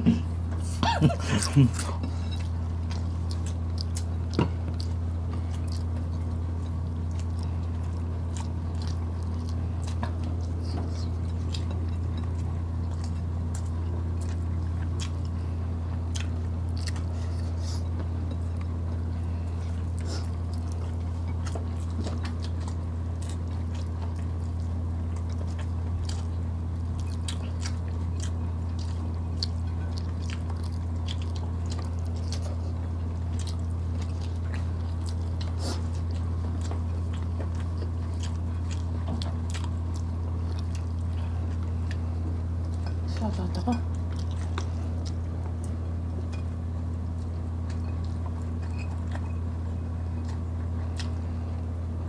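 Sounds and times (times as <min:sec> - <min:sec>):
people chewing food: 0:00.0 - 0:52.0
steady low hum: 0:00.0 - 0:52.0.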